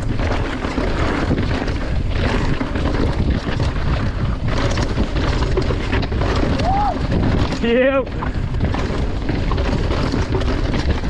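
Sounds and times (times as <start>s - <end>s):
bike knocking over rocks: 0.0s - 11.0s
tyres crunching on gravel: 0.0s - 11.0s
wind buffeting microphone: 0.0s - 11.0s.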